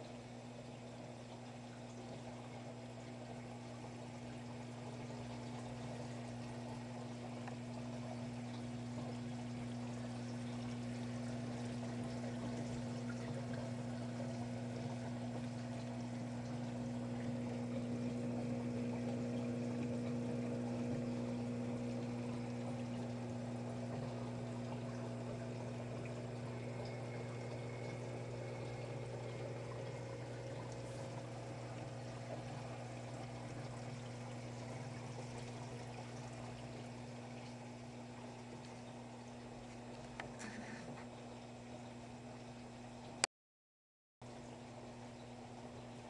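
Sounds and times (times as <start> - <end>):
pump humming: 0.0 - 43.3, 44.2 - 46.0
water trickling through filter: 0.0 - 43.3, 44.2 - 46.0.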